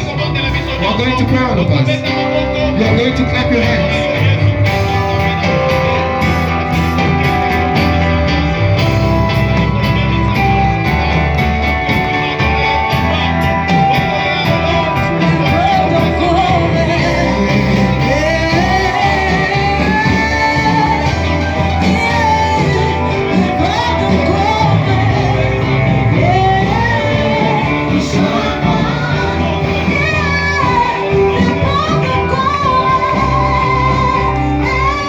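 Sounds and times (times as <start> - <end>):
people singing and shouting: 0.0 - 35.0
worship band playing: 0.0 - 35.0.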